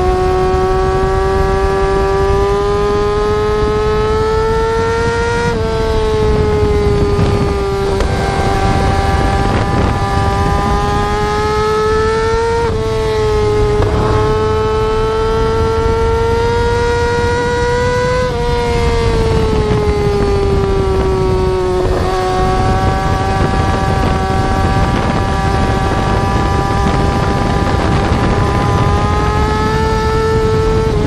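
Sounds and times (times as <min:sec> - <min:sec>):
motorcycle engine high revs whine: 0:00.0 - 0:31.0.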